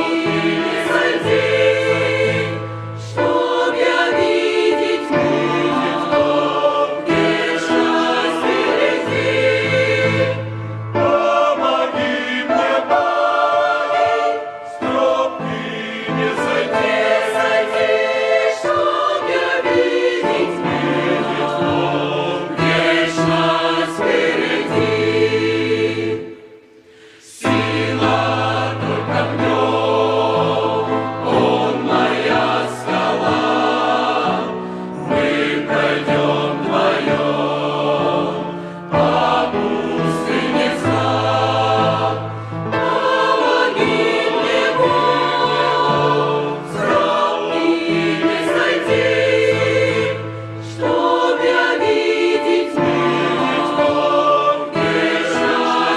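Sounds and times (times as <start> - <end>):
choir singing with music: 0.0 - 55.9.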